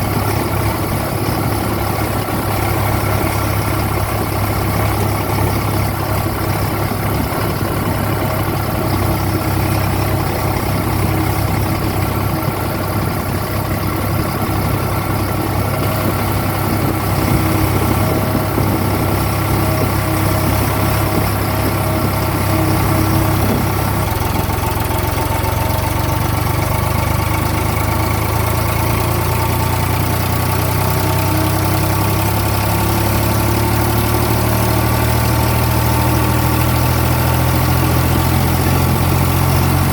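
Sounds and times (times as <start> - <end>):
backhoe digging and loading mud: 0.0 - 39.9
tractor diesel engine running: 0.0 - 39.9.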